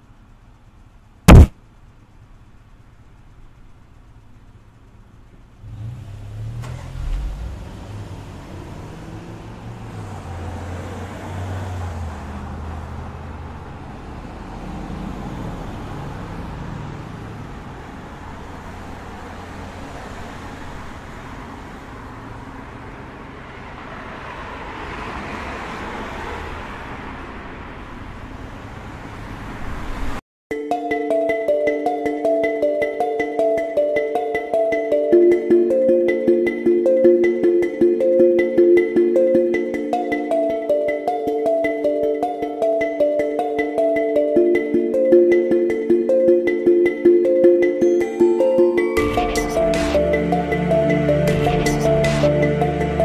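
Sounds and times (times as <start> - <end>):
cars passing in steady rumble: 0.0 - 53.0.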